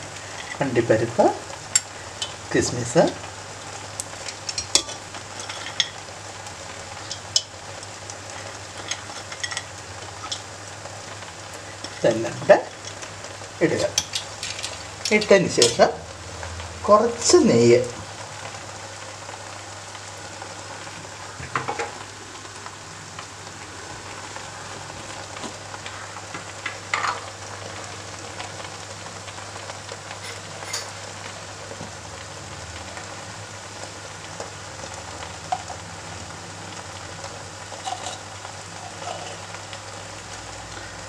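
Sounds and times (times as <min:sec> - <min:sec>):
pot sizzling: 0:00.0 - 0:41.0.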